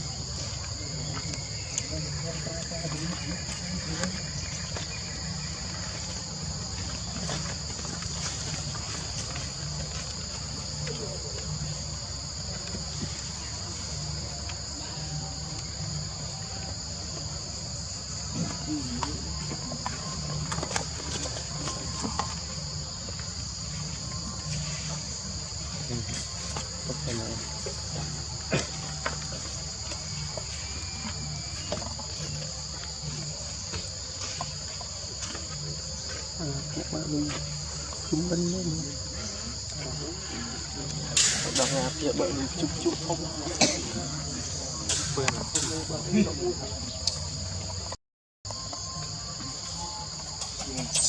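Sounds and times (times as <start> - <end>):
insects buzzing: 0.0 - 51.0.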